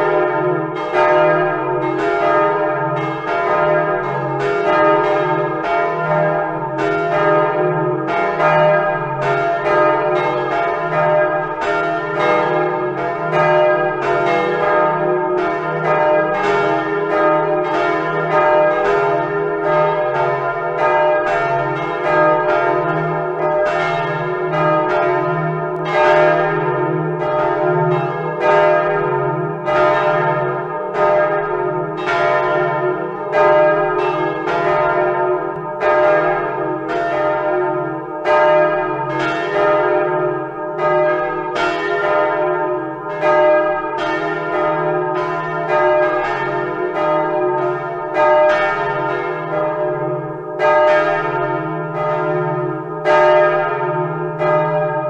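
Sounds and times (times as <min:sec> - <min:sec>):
church bells ringing: 0:00.0 - 0:55.0.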